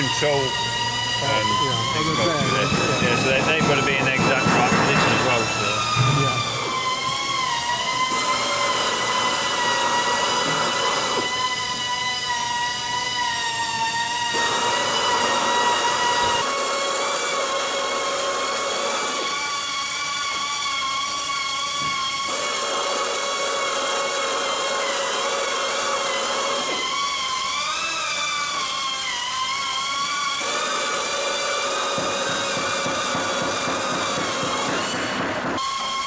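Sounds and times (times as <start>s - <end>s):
pneumatic drill whining: 0.0s - 36.0s.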